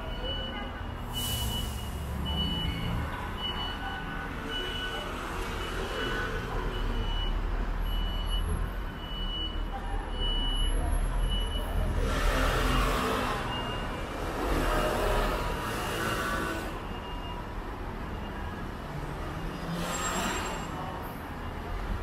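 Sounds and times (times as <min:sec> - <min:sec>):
busy station hall noise: 0:00.0 - 0:22.0.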